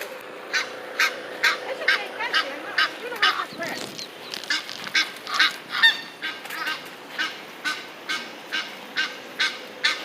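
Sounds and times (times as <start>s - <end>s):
waterfowl honking: 0.5s - 10.0s.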